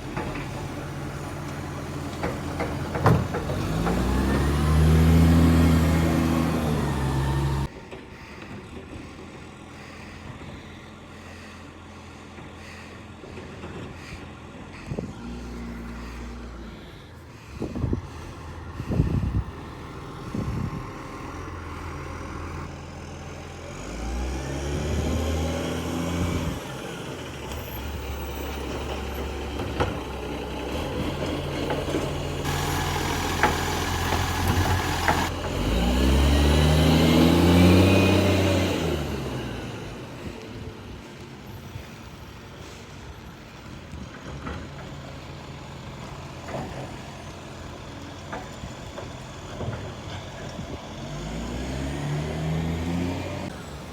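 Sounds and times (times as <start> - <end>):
garbage truck diesel engine revving: 0.0 - 7.8, 9.0 - 42.9, 43.6 - 53.9.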